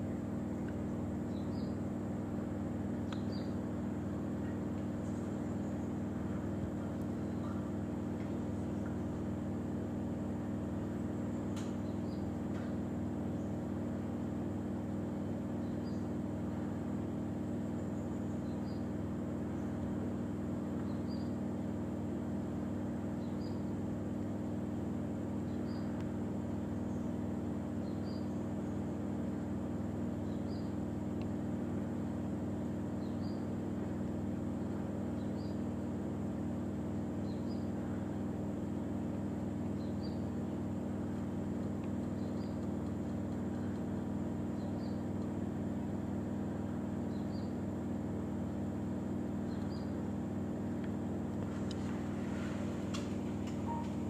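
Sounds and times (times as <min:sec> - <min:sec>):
low motor hum: 0:00.0 - 0:54.0.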